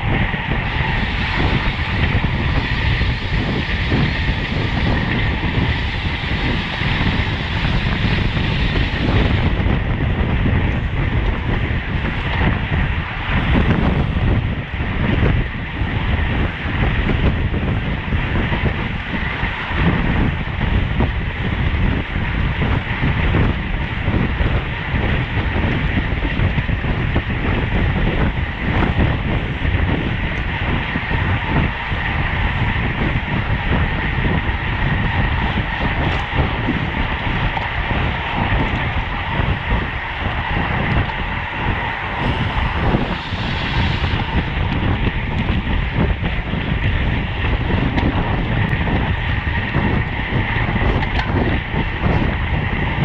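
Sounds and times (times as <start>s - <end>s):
bicycle road rumble: 0.0s - 53.0s
wind rush on microphone: 0.0s - 53.0s.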